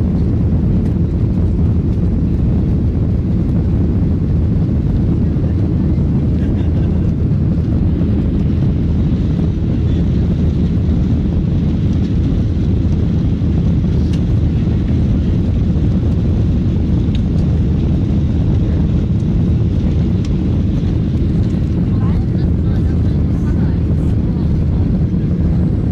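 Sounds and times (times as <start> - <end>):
airliner engines rumbling in cabin: 0.0 - 25.9.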